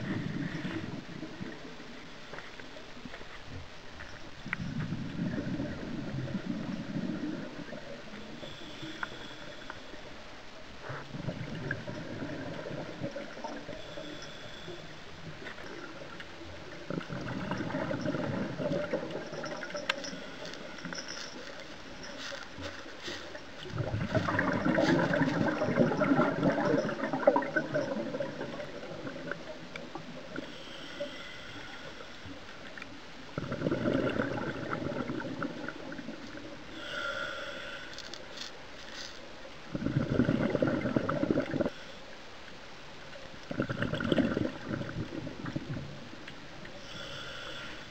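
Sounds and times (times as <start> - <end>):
quiet regulator hiss: 0.0 - 47.9
underwater breath bubbling: 4.5 - 10.1, 10.8 - 32.4, 33.3 - 38.2, 39.6 - 42.0, 43.4 - 47.9.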